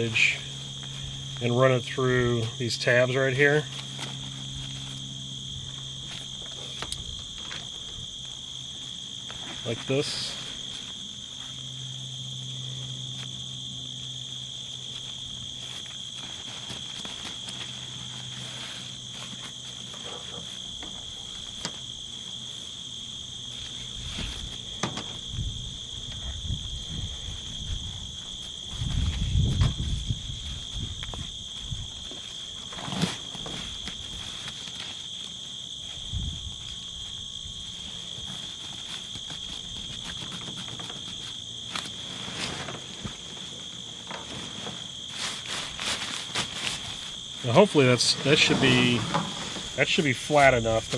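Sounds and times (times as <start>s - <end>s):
tarp rustling: 0.0s - 26.4s, 27.0s - 50.9s
insect chorus: 0.0s - 50.9s.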